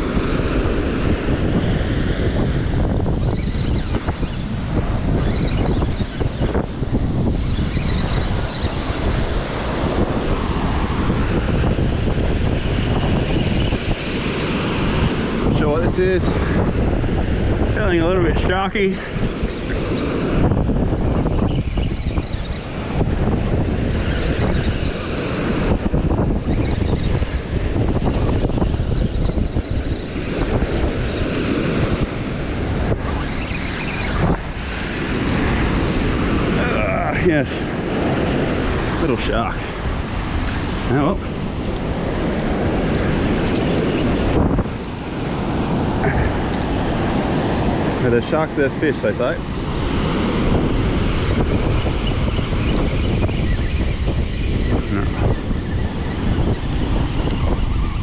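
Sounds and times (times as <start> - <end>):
surf breaking on beach: 0.0 - 21.5, 22.5 - 58.0
wind buffeting microphone: 0.0 - 58.0.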